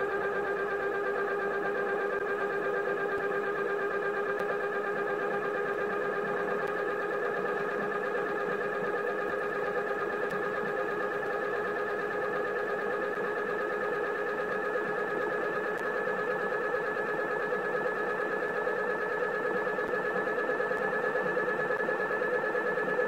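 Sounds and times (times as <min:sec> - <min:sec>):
machine whine: 0:00.0 - 0:23.0.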